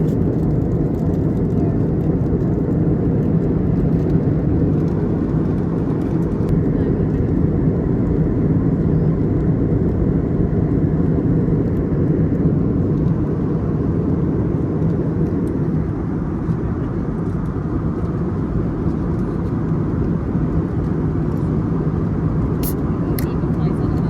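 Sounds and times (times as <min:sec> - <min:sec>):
aircraft cabin engine and airflow rush: 0:00.0 - 0:24.0.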